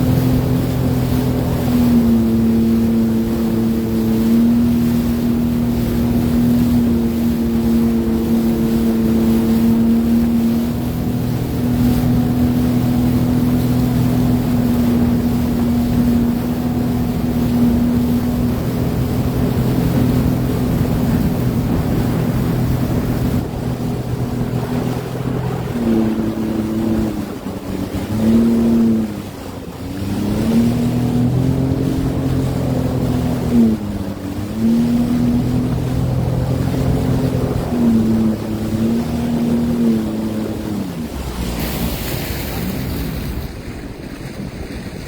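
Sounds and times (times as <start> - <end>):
watercraft engine running: 0.0 - 45.0
wind and water noise: 0.0 - 45.0.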